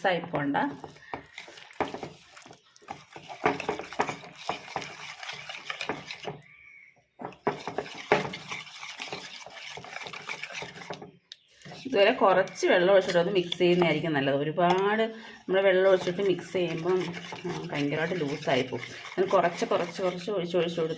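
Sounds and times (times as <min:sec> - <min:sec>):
batter stirred in a bowl: 0:00.4 - 0:14.1, 0:15.6 - 0:20.9.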